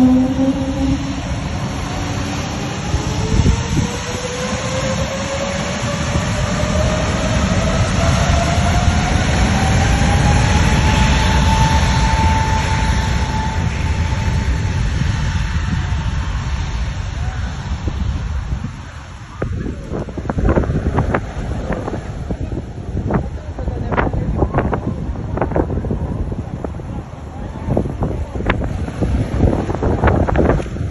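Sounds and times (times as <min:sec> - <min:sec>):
heavy rumble: 0:00.0 - 0:30.9
jet engines spooling up: 0:00.0 - 0:30.9.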